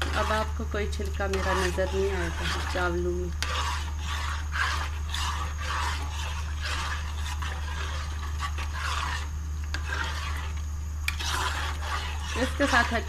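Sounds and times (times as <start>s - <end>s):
metal spoon stirring rice in pot: 0.0s - 13.0s
steady low hum: 0.0s - 13.0s.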